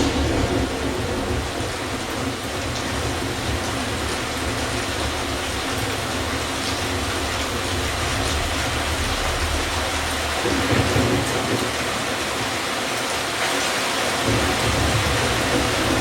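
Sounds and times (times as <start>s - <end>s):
rain hiss from speakers: 0.0s - 16.0s.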